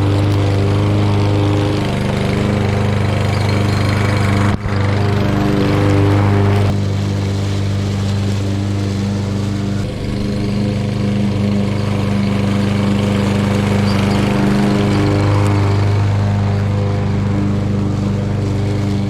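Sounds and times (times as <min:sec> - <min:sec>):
lawn mower engine running: 0:00.0 - 0:19.0
mulching dry leaves: 0:00.0 - 0:19.0.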